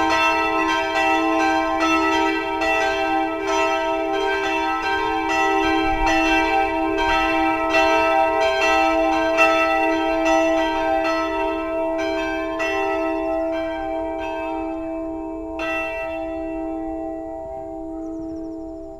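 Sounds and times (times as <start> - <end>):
church bells pealing: 0.0 - 18.9.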